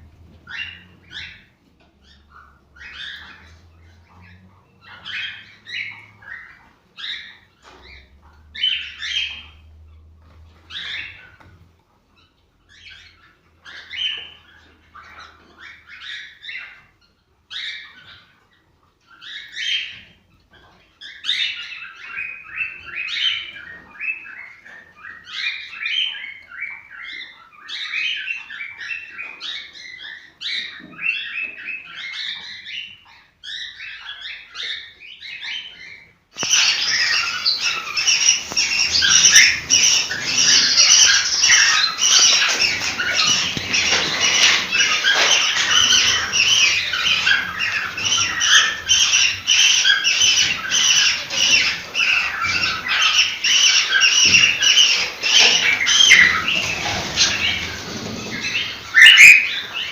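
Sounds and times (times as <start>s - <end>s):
dense chorus of birds calling: 0.0s - 9.6s, 21.0s - 59.9s
cockatiels chirping and warbling: 0.0s - 59.9s.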